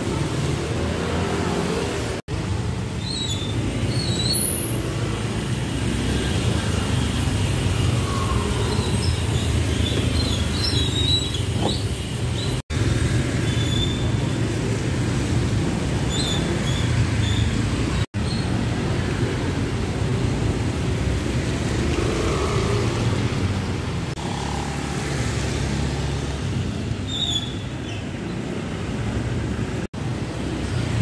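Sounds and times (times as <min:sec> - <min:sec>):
traffic on a wet road: 0:00.0 - 0:31.0.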